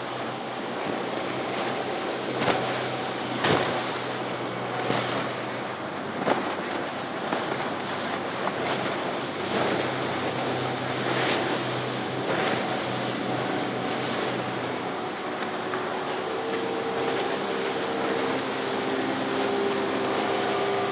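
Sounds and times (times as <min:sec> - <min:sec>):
boat engine drone: 0:00.0 - 0:20.9
wind: 0:00.0 - 0:20.9
water splashing against hull: 0:00.6 - 0:20.9.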